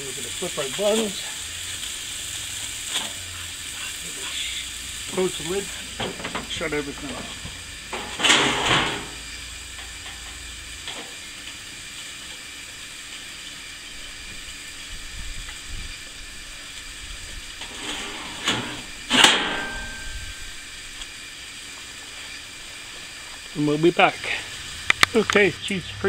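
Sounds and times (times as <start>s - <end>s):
burgers sizzling on grill: 0.0s - 26.0s.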